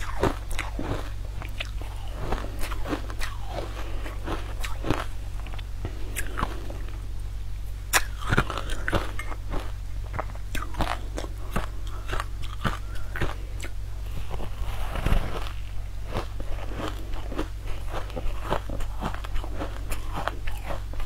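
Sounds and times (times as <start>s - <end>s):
crunchy chewing: 0.0s - 7.1s, 7.9s - 21.0s
low electrical hum: 0.0s - 21.0s.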